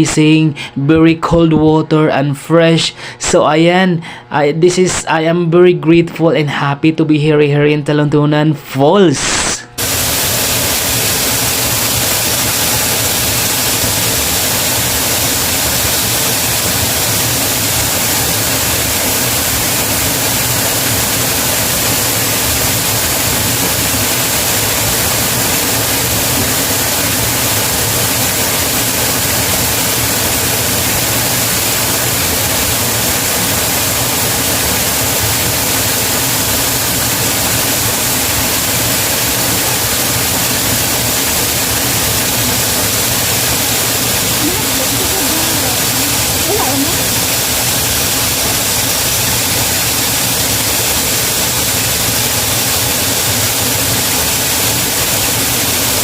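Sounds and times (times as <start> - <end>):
waterfall pouring: 9.8 - 56.0.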